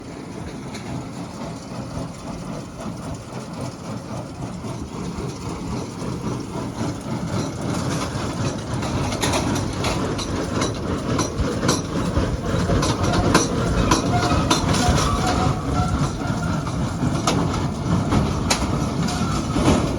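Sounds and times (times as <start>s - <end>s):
baler and tractor clattering: 0.2s - 19.9s.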